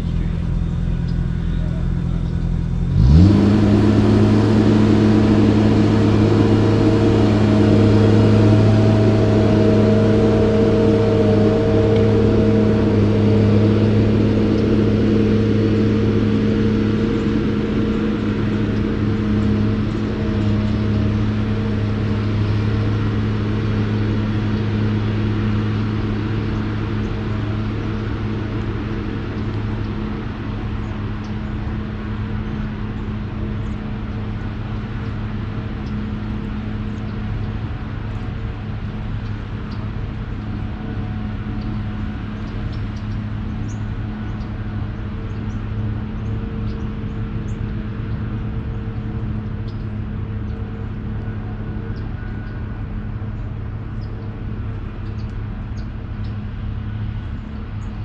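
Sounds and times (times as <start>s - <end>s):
motor humming: 0.0s - 58.0s.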